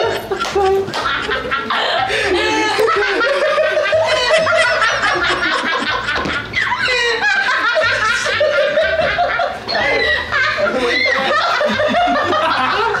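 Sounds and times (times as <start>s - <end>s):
group of people laughing: 0.0s - 13.0s.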